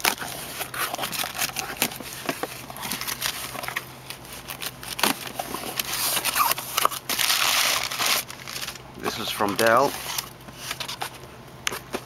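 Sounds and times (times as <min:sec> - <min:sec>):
packing paper rustling: 0:00.0 - 0:12.0.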